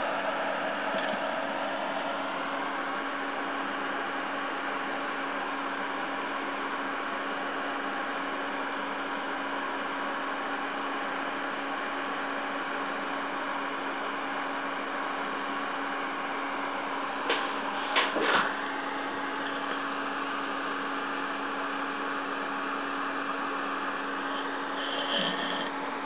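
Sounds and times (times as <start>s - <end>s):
computer fan hissing and humming: 0.0s - 26.0s.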